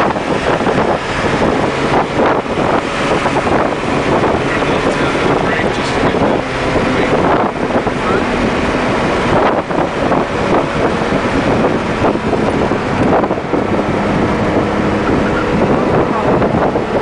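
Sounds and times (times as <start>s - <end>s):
car engine running hard: 0.0s - 17.0s
wind noise: 0.0s - 17.0s.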